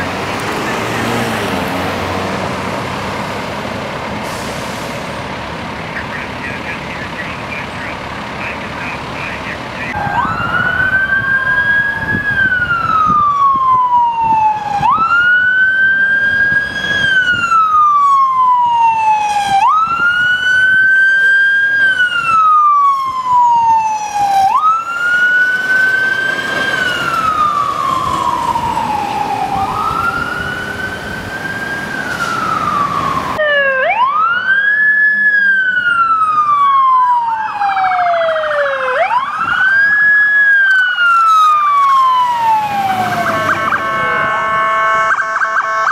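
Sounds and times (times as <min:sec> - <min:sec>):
emergency siren wailing: 0:05.6 - 0:45.9.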